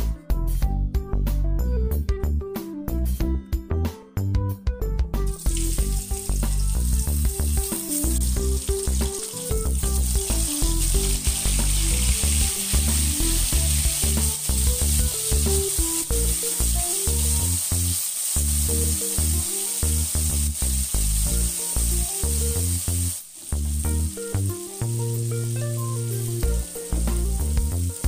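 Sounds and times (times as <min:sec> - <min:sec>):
background music: 0:00.0 - 0:28.0
food sizzling in hot oil: 0:05.3 - 0:28.0.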